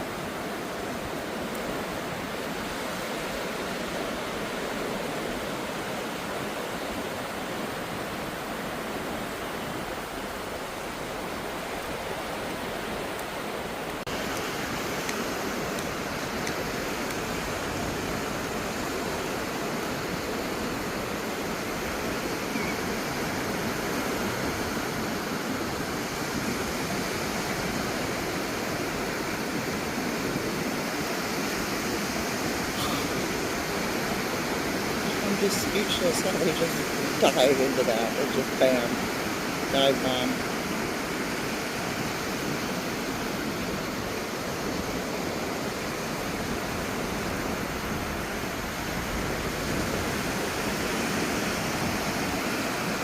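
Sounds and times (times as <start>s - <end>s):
ocean surf breaking: 0.0s - 53.0s.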